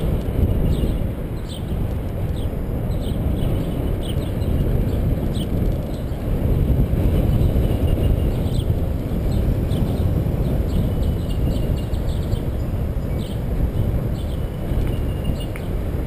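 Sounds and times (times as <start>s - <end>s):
bicycle tyre rumble: 0.0s - 16.0s
wind on microphone: 0.0s - 16.0s.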